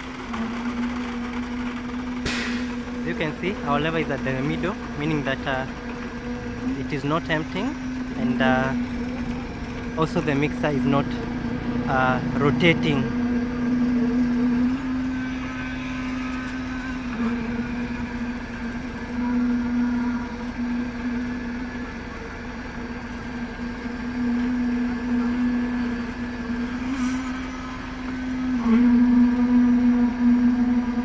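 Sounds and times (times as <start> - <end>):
construction machinery engine hum: 0.0 - 31.0.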